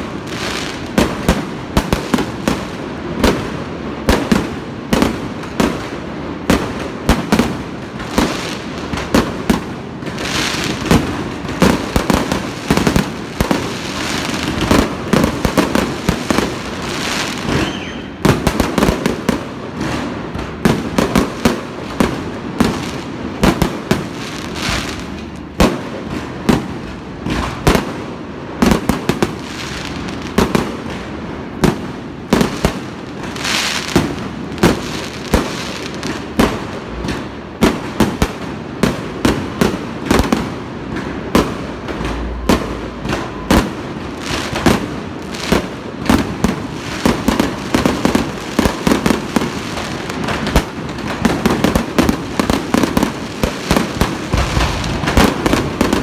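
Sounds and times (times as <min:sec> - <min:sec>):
firework bursts and bangs: 0:00.0 - 0:56.0
firework crackling: 0:00.0 - 0:56.0.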